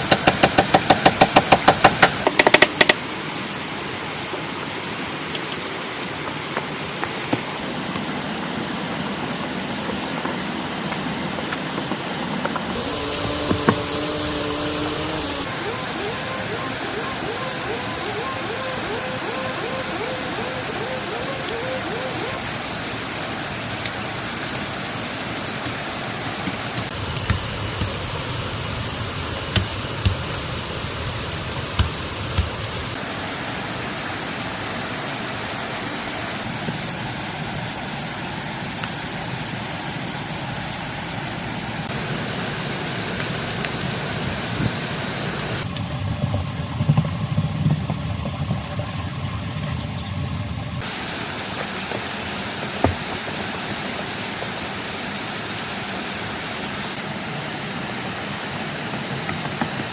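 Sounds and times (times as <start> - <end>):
rushing water: 2.2 - 45.7, 47.8 - 59.9.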